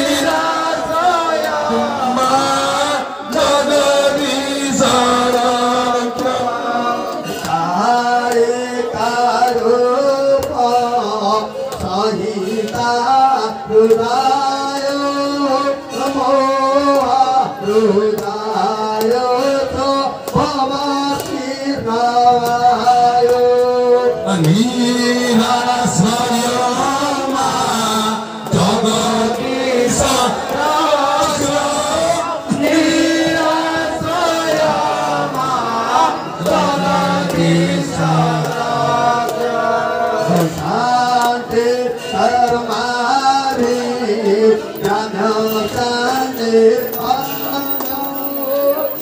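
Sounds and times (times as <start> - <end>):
man singing: 0.0 - 39.2, 40.1 - 49.0.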